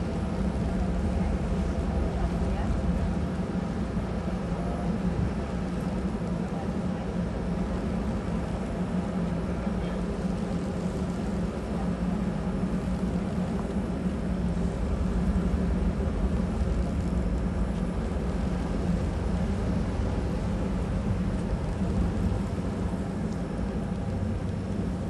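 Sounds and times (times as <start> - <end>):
boat diesel engines rumbling: 0.0 - 25.0.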